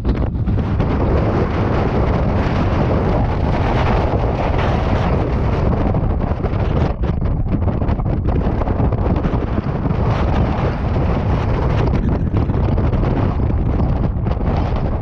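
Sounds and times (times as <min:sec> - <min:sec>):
wind blasting microphone: 0:00.0 - 0:15.0.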